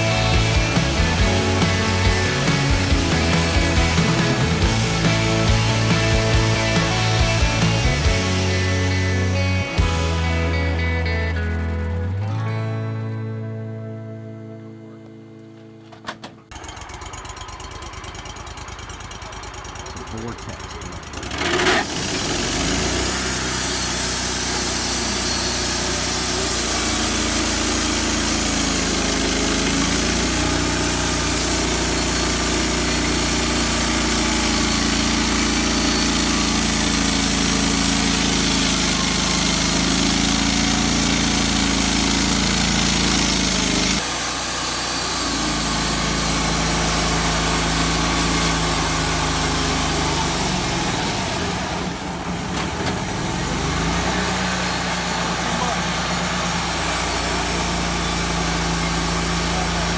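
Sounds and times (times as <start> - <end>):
band sawmill running: 0.0 - 12.5, 16.2 - 59.9.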